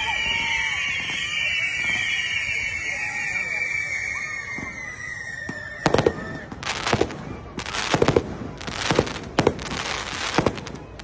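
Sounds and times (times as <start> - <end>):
fireworks banging and crackling: 0.0 - 11.0.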